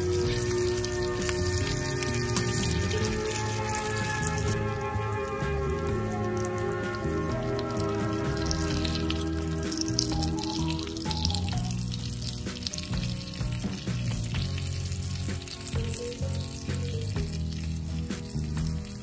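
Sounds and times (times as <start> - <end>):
background music: 0.0 - 19.0
fish frying in hot oil: 0.0 - 19.0.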